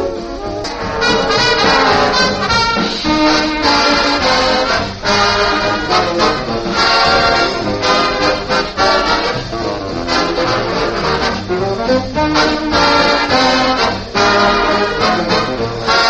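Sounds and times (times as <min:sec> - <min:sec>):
big band swing music on old radio: 0:00.0 - 0:16.0.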